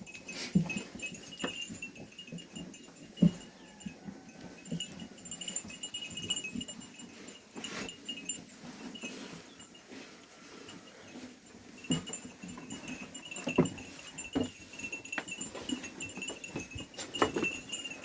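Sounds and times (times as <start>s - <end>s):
sheep bells jingling: 0.0s - 18.0s.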